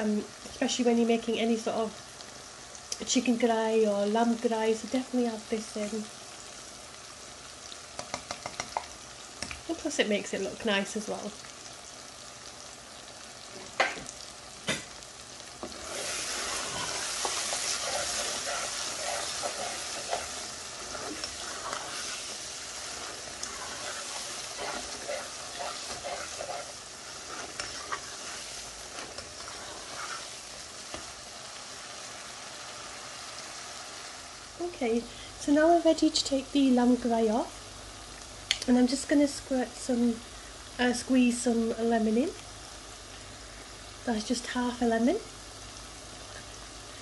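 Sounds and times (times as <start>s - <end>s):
meat sizzling in a pan: 0.0s - 47.0s.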